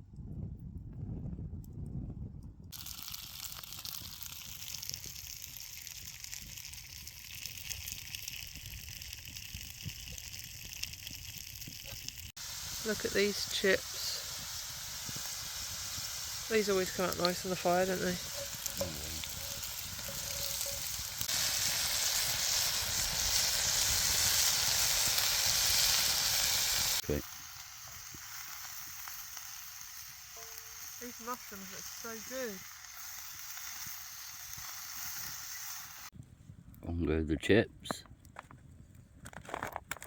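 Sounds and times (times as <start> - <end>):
campfire hissing and crackling: 2.7 - 36.2
food sizzling in a pan: 2.8 - 36.1.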